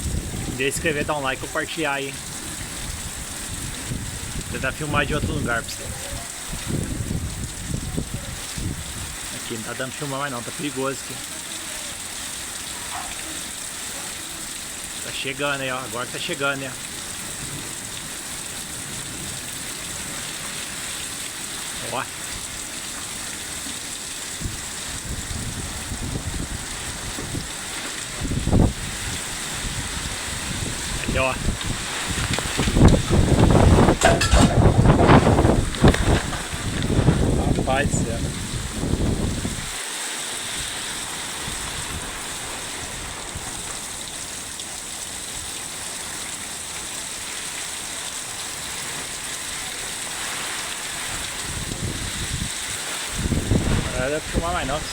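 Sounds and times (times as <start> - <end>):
heavy rain pouring: 0.0 - 54.9
wind gusting against microphone: 0.0 - 54.9.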